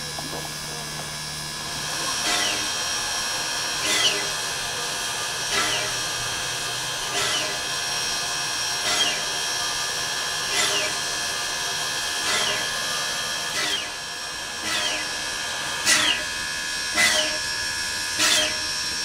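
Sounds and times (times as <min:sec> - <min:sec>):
steam locomotive whine and hiss: 0:00.0 - 0:19.0.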